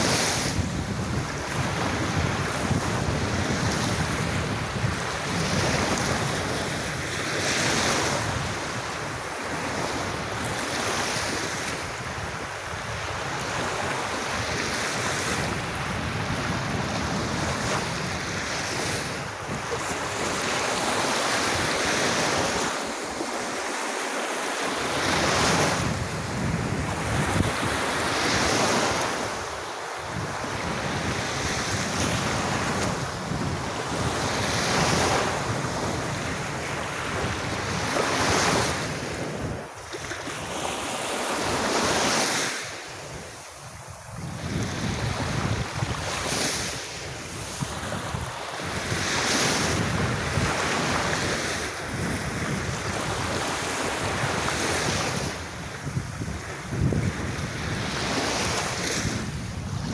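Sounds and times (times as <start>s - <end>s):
wind rumbling on microphone: 0.0s - 23.8s, 24.6s - 59.9s
sea waves washing onto beach: 0.0s - 59.9s.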